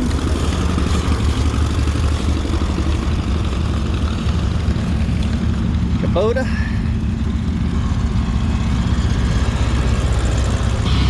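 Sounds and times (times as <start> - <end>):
engine rumbling at low speed: 0.0 - 11.0.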